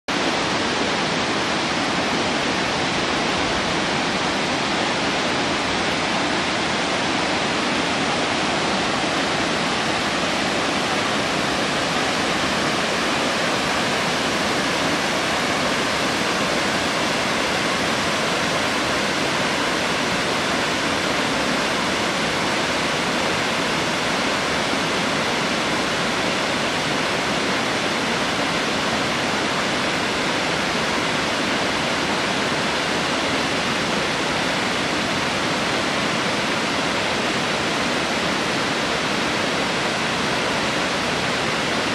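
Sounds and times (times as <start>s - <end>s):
waterfall rushing over rocks: 0.1s - 41.9s.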